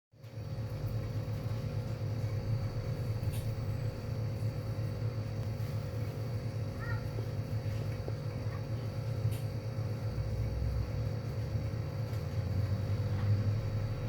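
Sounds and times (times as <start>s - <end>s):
refrigeration compressor hum: 0.2s - 14.0s.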